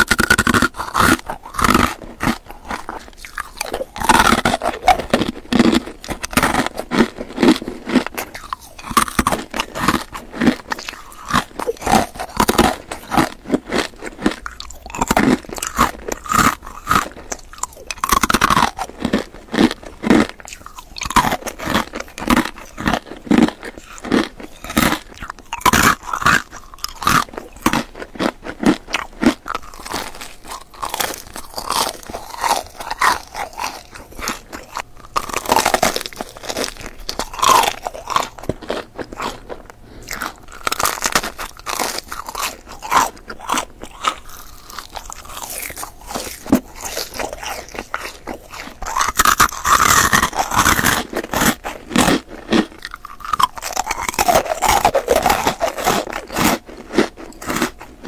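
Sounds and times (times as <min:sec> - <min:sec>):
person chewing crunchy candy: 0:00.0 - 0:58.0.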